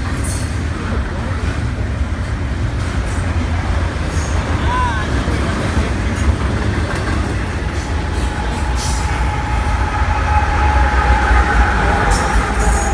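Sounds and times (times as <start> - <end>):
train wheels rumbling on rail: 0.0 - 12.9.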